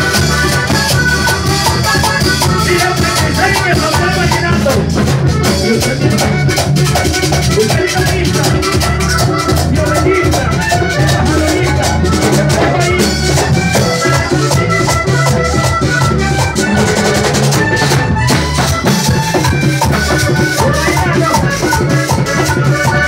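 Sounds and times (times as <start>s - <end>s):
accordion melody: 0.0s - 23.0s
bass line: 0.0s - 23.0s
conga drums: 0.0s - 23.0s.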